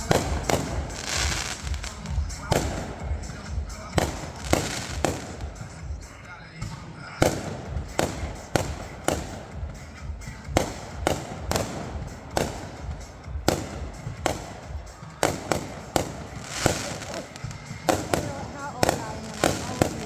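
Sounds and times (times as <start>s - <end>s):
fireworks banging: 0.0s - 20.0s.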